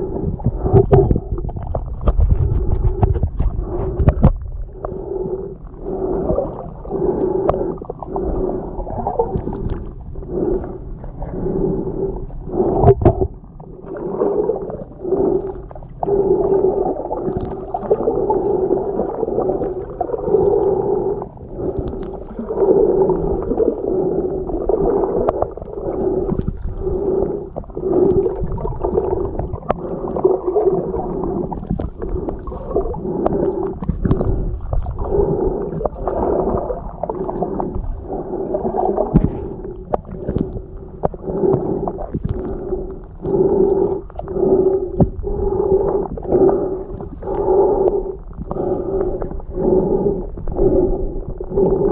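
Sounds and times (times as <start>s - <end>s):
muffled underwater water hum: 0.0s - 51.9s.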